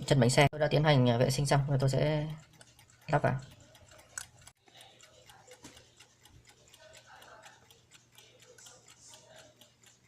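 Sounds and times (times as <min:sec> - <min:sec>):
mechanical clock ticking: 0:00.0 - 0:10.0.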